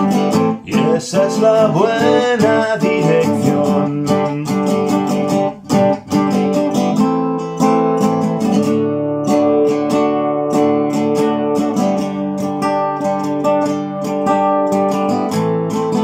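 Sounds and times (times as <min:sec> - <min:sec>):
classical guitar strumming: 0:00.0 - 0:16.0.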